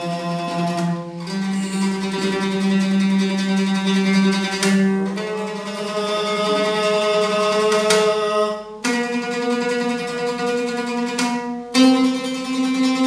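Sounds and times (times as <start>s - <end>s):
oud playing held notes: 0.0s - 13.0s.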